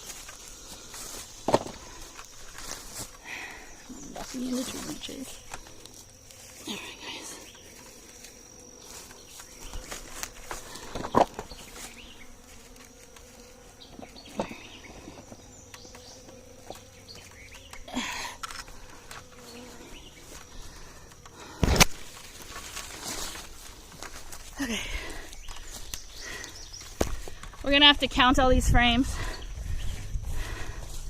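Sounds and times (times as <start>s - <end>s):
rustling of handling: 0.0s - 14.3s, 15.1s - 27.8s
bees buzzing: 0.0s - 31.0s.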